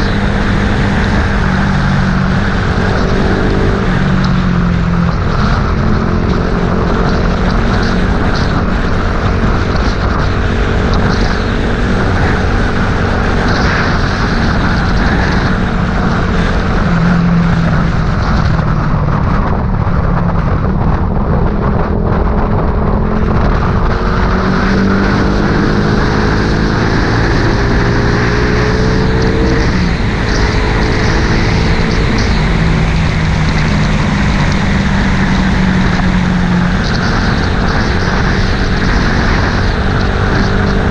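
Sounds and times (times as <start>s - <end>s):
vehicle engine running: 0.0s - 40.9s
wind and road noise: 0.0s - 40.9s.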